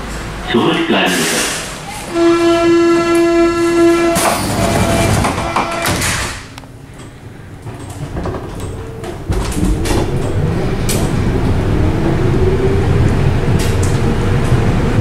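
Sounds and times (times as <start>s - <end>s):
subway train running noise: 0.0s - 15.0s.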